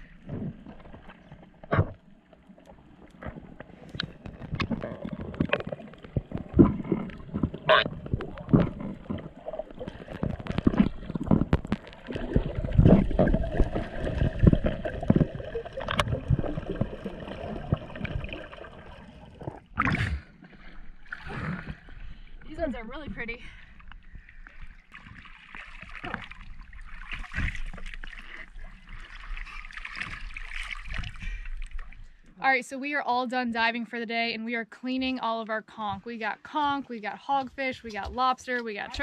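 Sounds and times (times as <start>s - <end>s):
underwater knocks and thumps: 0.0s - 32.0s.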